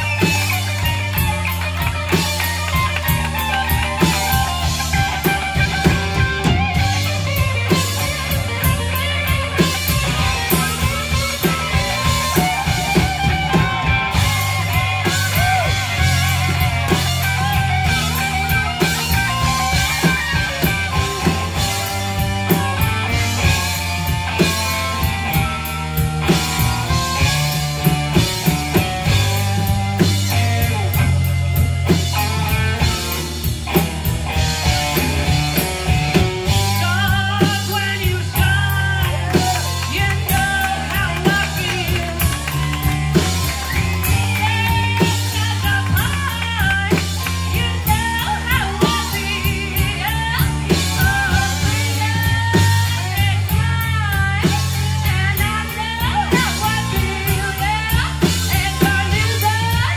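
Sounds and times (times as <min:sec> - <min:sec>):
bass guitar: 0:00.0 - 0:59.9
drum kit: 0:00.0 - 0:59.9
electric guitar: 0:00.0 - 0:59.9.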